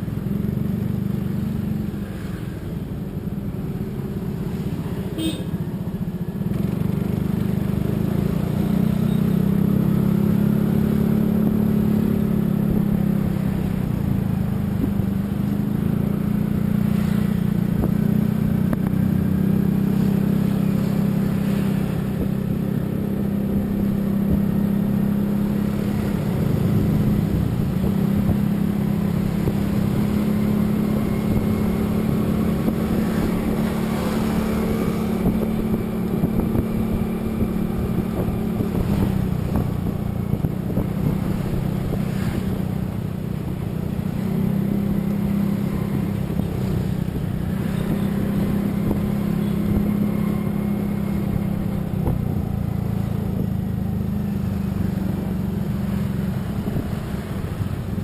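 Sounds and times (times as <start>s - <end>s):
road noise: 0.0s - 58.0s
vehicle engine drone: 0.0s - 58.0s.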